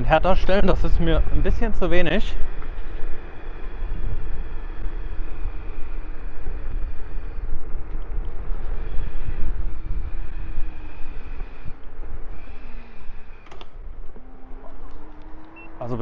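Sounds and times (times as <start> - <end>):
electric motor whine: 0.0 - 16.0
wind buffeting microphone: 0.0 - 16.0.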